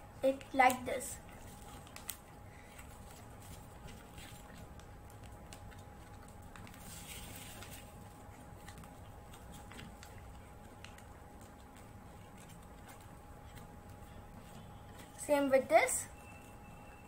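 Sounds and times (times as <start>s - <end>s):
faint hum: 0.0s - 17.0s
paper rustling and crinkling: 1.4s - 15.1s.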